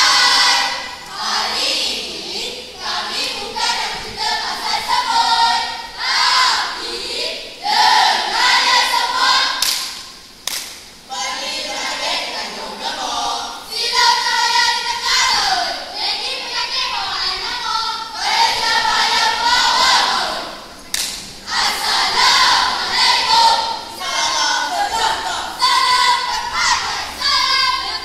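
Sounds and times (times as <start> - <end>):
group chanting in unison: 0.0 - 10.0, 11.1 - 16.4, 18.0 - 28.0.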